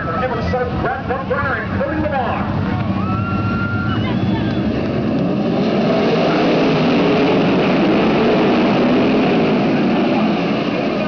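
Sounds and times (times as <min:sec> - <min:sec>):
racing car engines roaring: 0:00.0 - 0:11.0.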